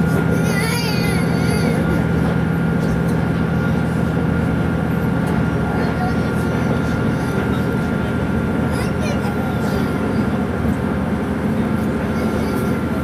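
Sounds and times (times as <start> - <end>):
railcar engine drone: 0.0 - 13.0.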